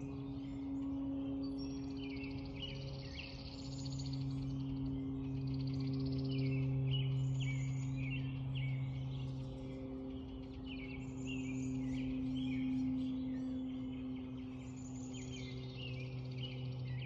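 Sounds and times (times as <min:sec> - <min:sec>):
songbirds chirping: 0:00.0 - 0:17.0
steady low hum: 0:00.0 - 0:17.0.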